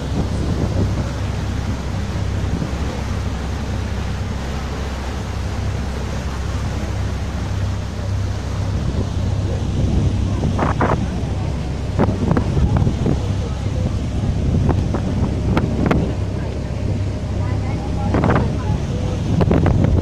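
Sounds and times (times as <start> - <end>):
boat engine droning: 0.0 - 20.0
propeller wash churning: 0.0 - 20.0
wind buffeting microphone: 0.0 - 20.0.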